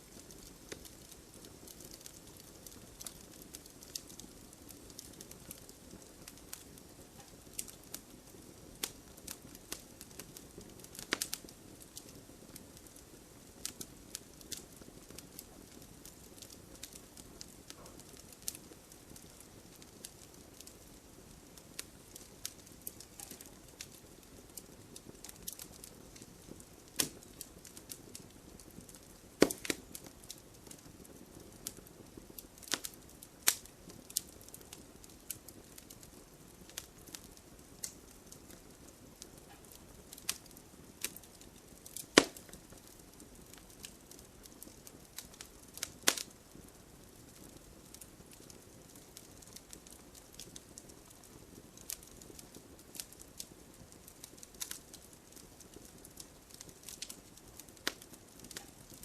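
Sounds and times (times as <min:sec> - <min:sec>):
hiss of flames: 0:00.0 - 0:59.0
logs crackling in a fireplace: 0:00.0 - 0:59.0.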